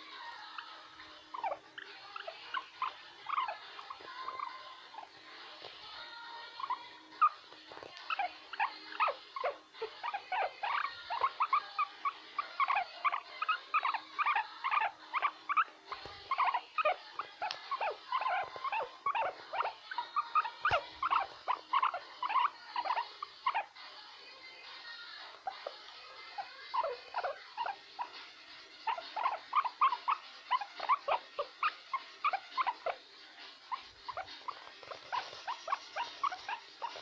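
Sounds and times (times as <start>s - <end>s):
guinea pig calls: 0.2s - 23.8s, 24.8s - 37.0s.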